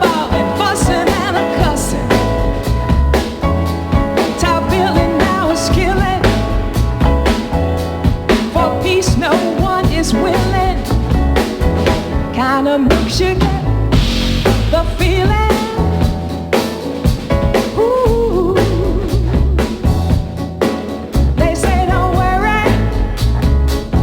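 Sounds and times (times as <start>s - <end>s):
song with drum and bass beat: 0.0s - 24.0s.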